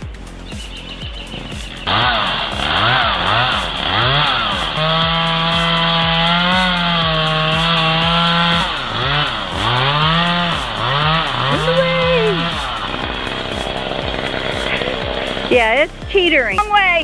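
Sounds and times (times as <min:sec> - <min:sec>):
chainsaw revving and cutting: 0:01.3 - 0:16.0.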